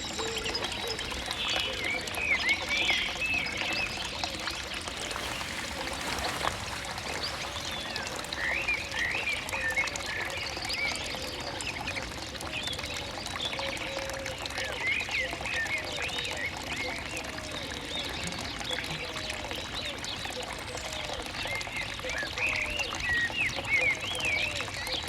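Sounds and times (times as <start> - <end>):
running water: 0.0 - 25.0
small birds chirping: 0.0 - 25.0.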